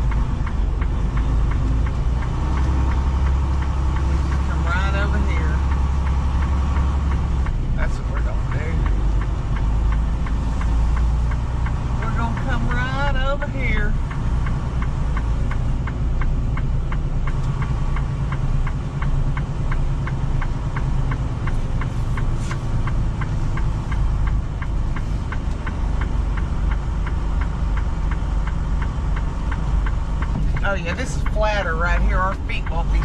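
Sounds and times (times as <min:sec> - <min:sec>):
steady light ticking: 0:00.0 - 0:07.6, 0:08.2 - 0:33.0
diesel truck engine running: 0:00.0 - 0:33.0.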